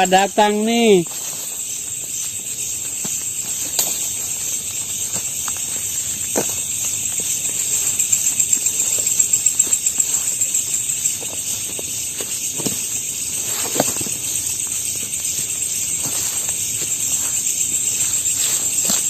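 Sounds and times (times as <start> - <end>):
crickets trilling: 0.0 - 19.0
faint ticks and crackles: 0.0 - 19.0.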